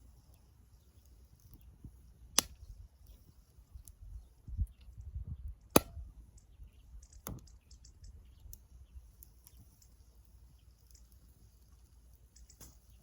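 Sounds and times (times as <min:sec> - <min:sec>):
wood fire crackling and popping: 0:00.1 - 0:13.0.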